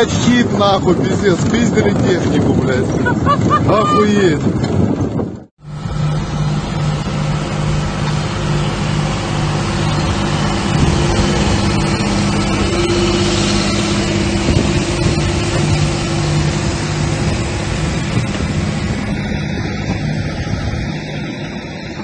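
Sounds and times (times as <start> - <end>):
diesel tractor engine running: 0.0 - 22.0.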